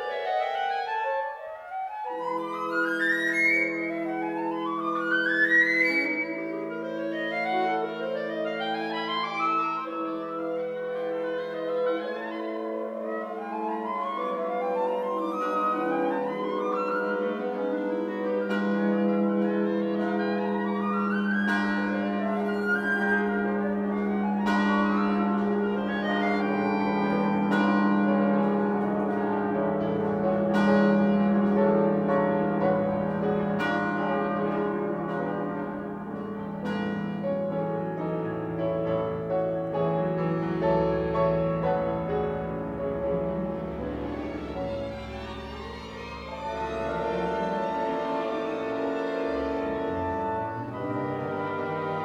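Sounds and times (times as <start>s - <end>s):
orchestral music: 0.0s - 52.0s.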